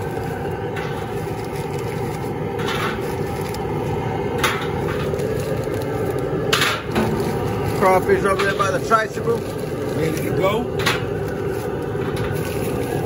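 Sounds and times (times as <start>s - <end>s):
gas burner roaring: 0.0s - 13.0s.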